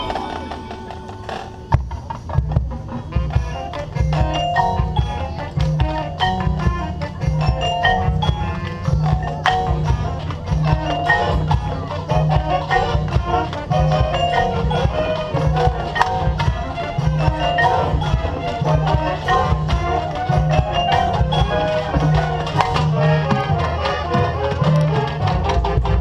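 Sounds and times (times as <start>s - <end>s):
mallet percussion quick notes: 0.0s - 26.0s
marching band playing: 0.0s - 26.0s
steady low bass: 1.7s - 26.0s.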